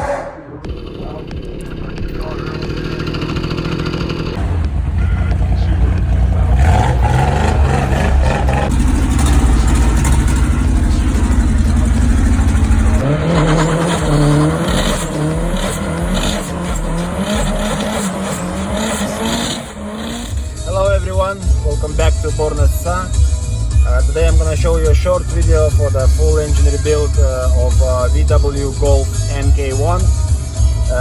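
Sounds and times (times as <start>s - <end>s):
car engine rumbling and revving: 2.8s - 31.0s.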